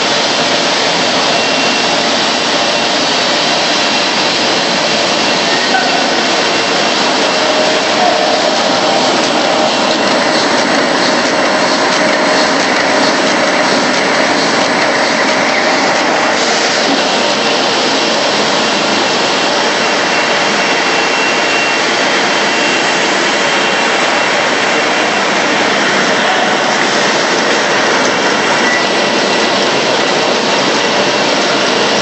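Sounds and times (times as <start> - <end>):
paper cutting machine running: 0.0 - 32.0.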